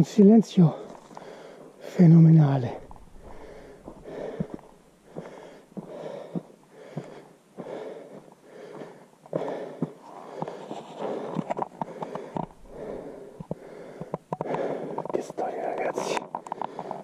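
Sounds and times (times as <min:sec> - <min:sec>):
person breathing close to microphone: 0:00.8 - 0:01.8, 0:02.8 - 0:15.1, 0:16.4 - 0:17.0.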